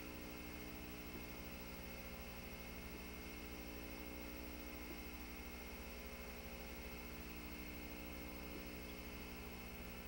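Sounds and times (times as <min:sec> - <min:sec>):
faint electrical hum and hiss: 0:00.0 - 0:10.0.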